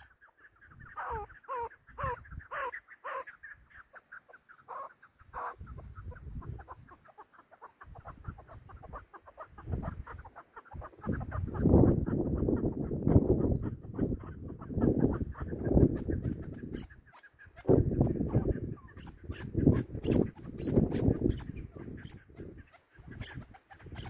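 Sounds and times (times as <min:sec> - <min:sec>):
partridges calling: 0:00.0 - 0:24.0.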